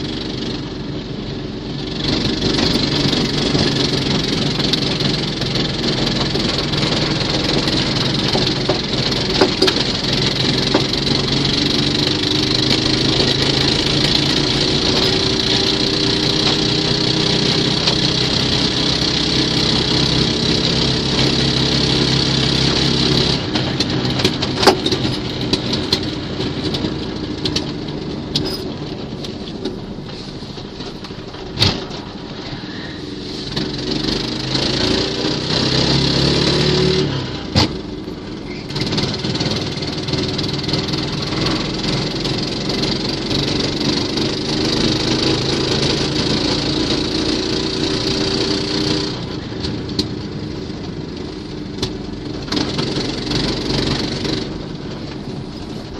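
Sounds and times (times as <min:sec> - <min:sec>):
small engine revving: 0:01.8 - 0:28.6, 0:32.4 - 0:55.9.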